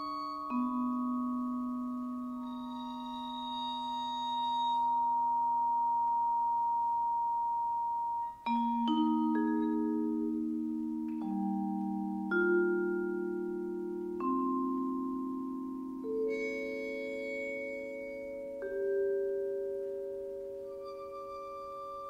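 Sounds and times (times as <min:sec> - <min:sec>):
vibraphone notes ringing: 0:00.0 - 0:22.0.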